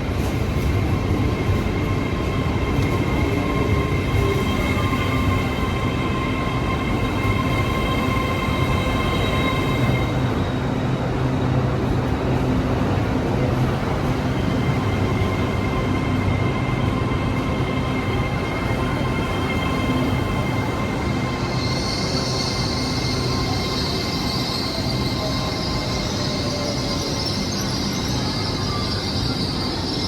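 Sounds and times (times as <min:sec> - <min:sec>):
train high whine: 0:00.0 - 0:30.0
train rumbling: 0:00.0 - 0:30.0.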